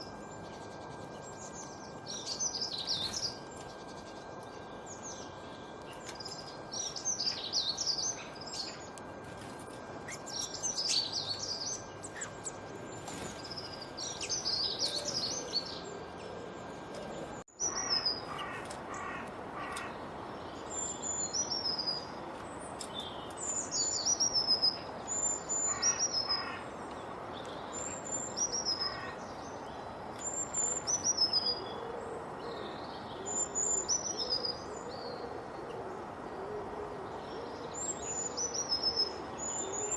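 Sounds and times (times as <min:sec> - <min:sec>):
songbirds warbling: 0:00.0 - 0:39.9.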